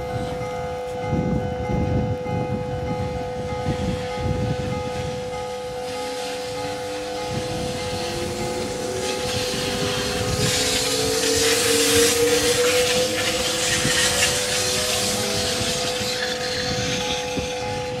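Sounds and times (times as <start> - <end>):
electric train motor tones: 0.0 - 18.0
train hiss: 3.4 - 18.0.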